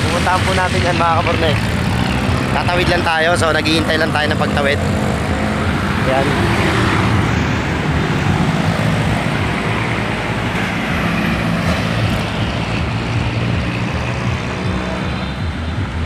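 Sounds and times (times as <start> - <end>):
motor traffic passing: 0.0 - 16.0.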